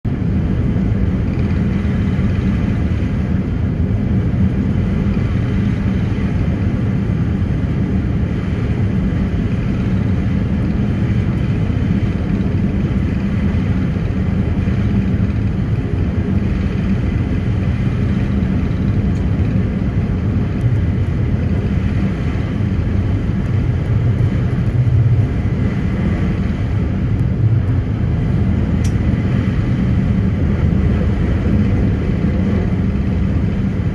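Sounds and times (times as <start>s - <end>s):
ferry engines droning: 0.0s - 33.9s.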